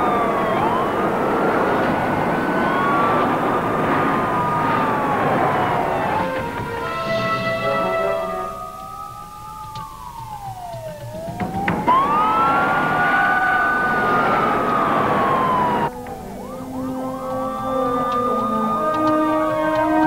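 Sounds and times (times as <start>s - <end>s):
police siren wailing: 0.0s - 20.0s
rush of noise: 0.0s - 20.0s.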